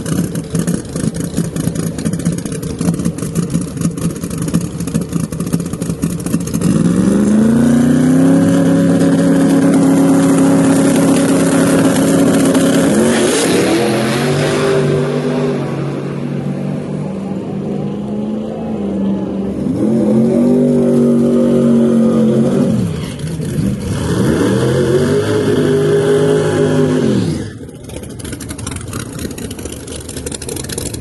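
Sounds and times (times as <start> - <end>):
drag car engine idling and launching: 0.0 - 31.0.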